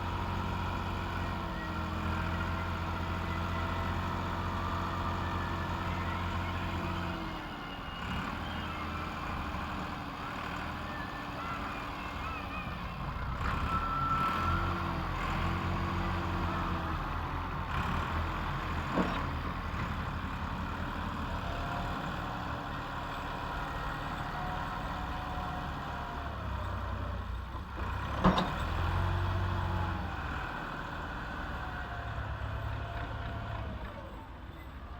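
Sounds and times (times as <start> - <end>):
tractor engine under load: 0.0 - 34.7.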